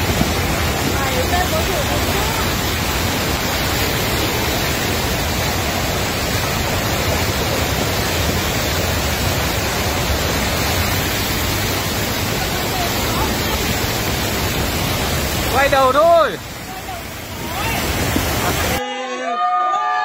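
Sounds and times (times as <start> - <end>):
floodwater rushing: 0.0 - 18.8.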